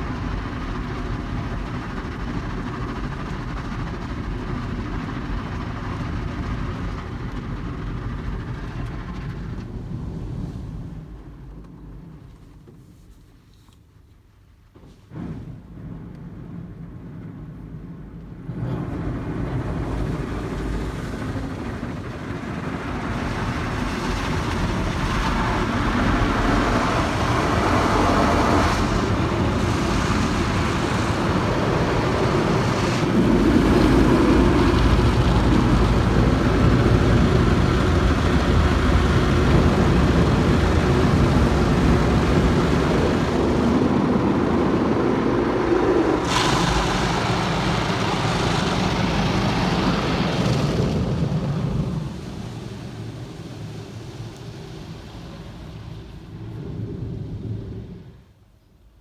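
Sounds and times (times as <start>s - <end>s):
car wash spray and machinery: 0.0s - 58.5s.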